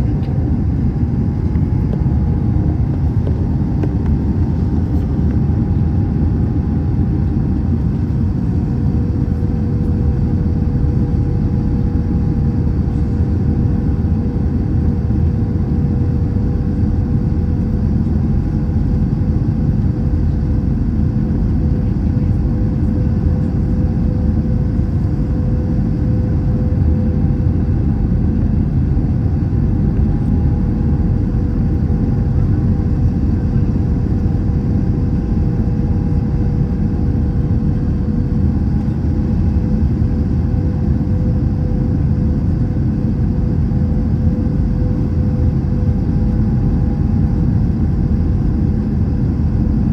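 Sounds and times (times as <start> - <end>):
airflow and engine drone: 0.0 - 49.9
steady humming tones: 0.0 - 49.9.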